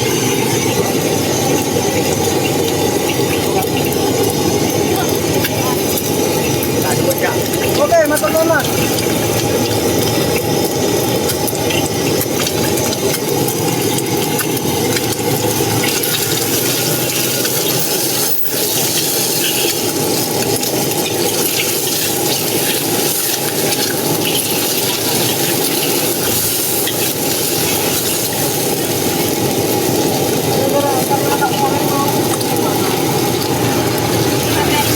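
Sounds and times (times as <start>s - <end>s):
food sizzling in a pan: 0.0s - 34.9s.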